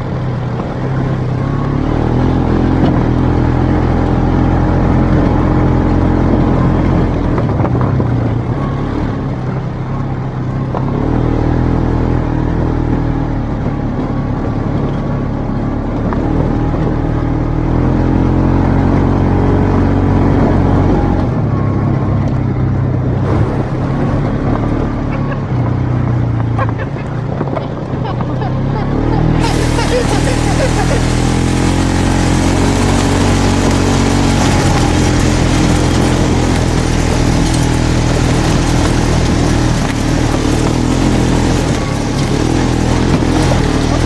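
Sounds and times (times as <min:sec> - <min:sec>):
off-road vehicle engine revving: 0:00.0 - 0:44.0.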